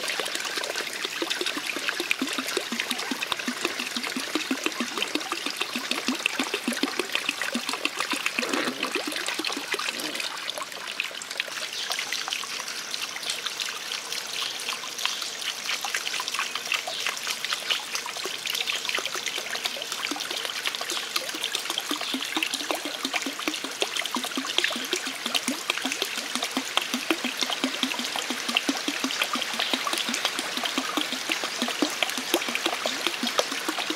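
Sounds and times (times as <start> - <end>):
water trickling and splashing: 0.0 - 33.9.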